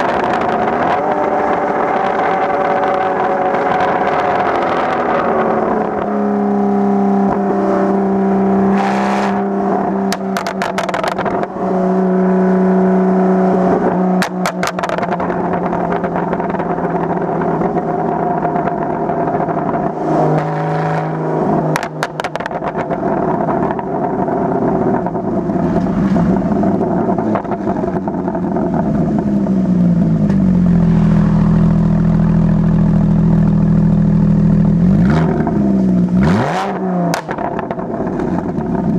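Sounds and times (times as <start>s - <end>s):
car exhaust running: 0.0s - 38.9s.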